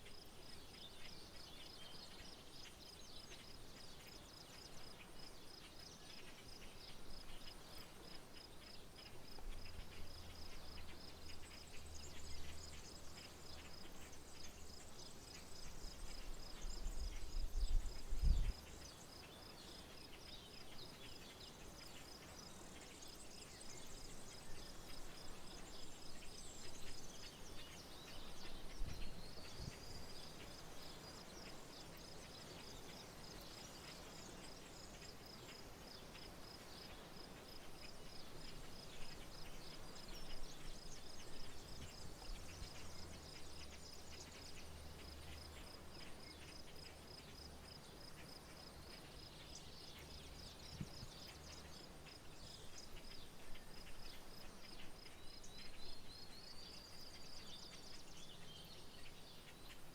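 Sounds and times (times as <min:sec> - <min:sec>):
bird chirps: 0:00.0 - 0:59.9.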